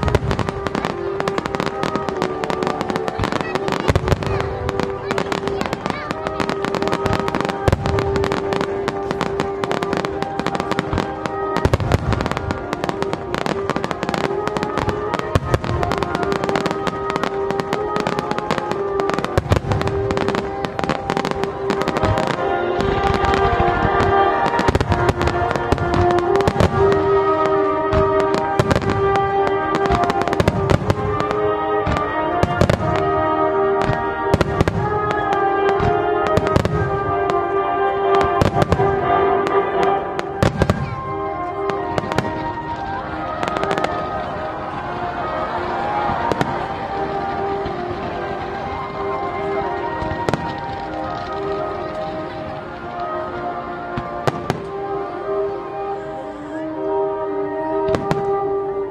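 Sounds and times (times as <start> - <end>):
music with sustained chords: 0.0 - 58.9.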